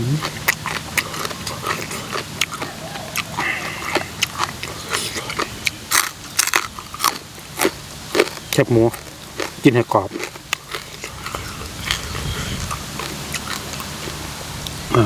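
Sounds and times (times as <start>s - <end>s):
person chewing crunchy food: 0.0s - 14.9s.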